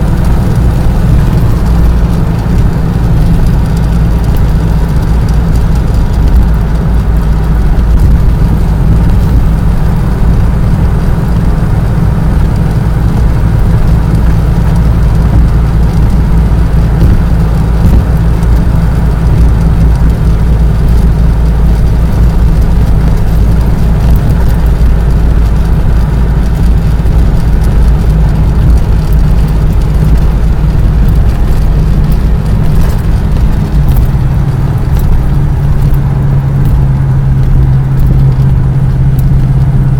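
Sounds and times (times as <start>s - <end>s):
motor vehicle rumble: 0.0s - 39.9s.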